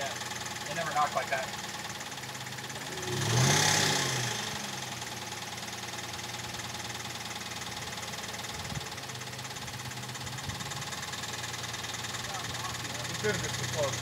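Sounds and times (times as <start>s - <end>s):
engine idling with knock: 0.0s - 14.0s.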